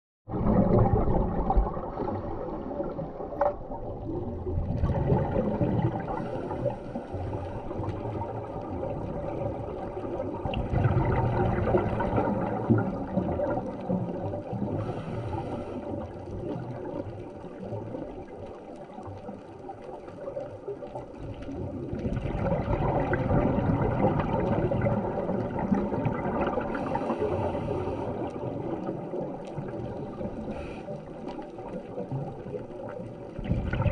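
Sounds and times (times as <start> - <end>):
underwater rushing gurgling water: 0.3 - 33.9.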